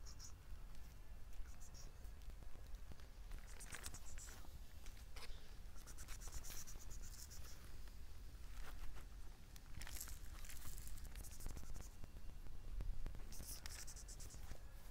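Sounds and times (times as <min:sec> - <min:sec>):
garden plants rustling: 0:00.0 - 0:12.5.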